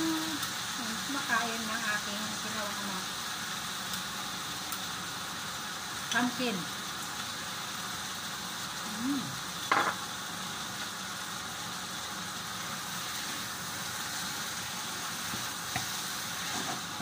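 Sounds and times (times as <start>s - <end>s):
curry sizzling in a frying pan: 0.0s - 17.0s.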